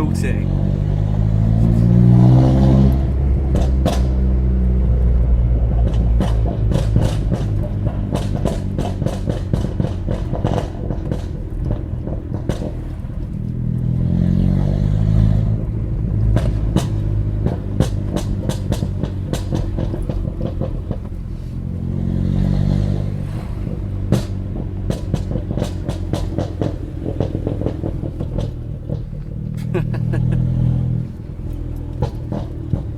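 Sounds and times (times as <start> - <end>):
car engine revving: 0.0 - 32.9
exhaust pops and crackles: 1.0 - 32.9.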